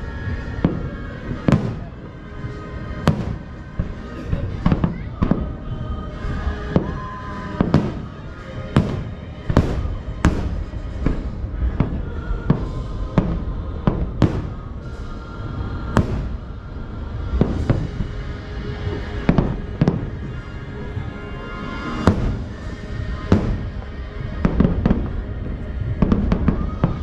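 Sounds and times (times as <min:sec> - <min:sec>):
fireworks booming: 0:00.0 - 0:27.0
music playing: 0:00.0 - 0:27.0.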